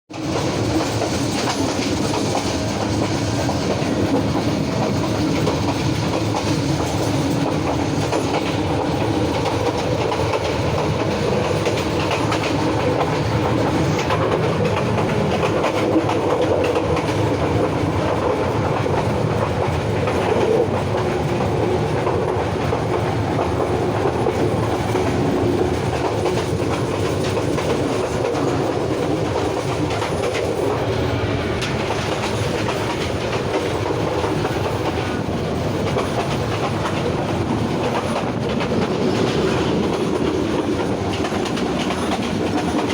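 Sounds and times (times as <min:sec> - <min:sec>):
train carriage rumble and rattle: 0:00.1 - 0:42.9.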